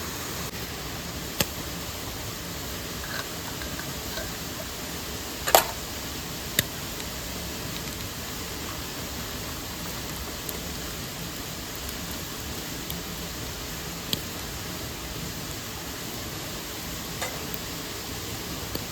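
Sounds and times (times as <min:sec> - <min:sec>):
stream and waterfall rushing: 0:00.0 - 0:18.9.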